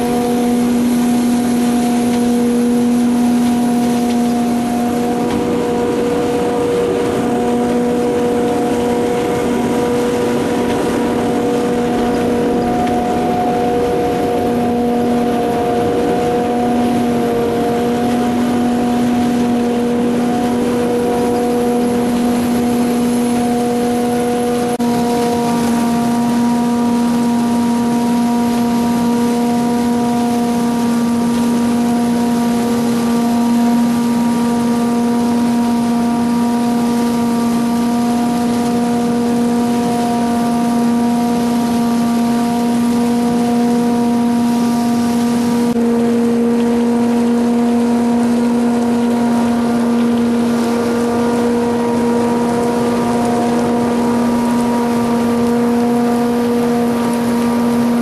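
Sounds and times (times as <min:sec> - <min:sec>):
harvester machine drone: 0:00.0 - 0:58.0.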